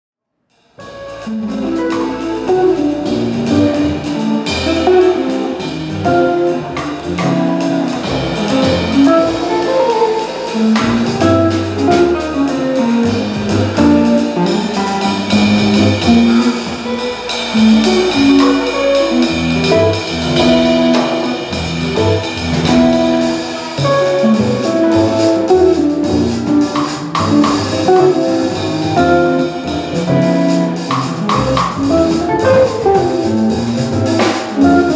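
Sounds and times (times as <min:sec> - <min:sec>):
jazz trio playing: 0:00.7 - 0:34.9.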